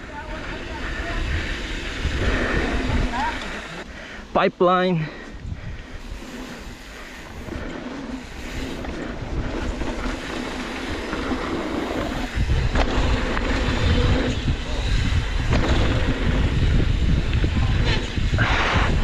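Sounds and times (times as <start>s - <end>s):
mountain bike rattling on dirt trail: 0.0s - 3.8s, 5.0s - 19.0s
wind rumble on microphone: 0.0s - 3.9s, 5.3s - 19.0s.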